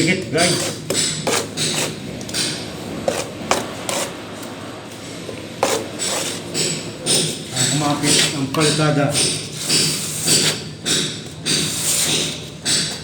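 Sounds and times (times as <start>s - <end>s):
trowel scraping plaster on wall: 0.0s - 4.2s, 5.6s - 13.0s.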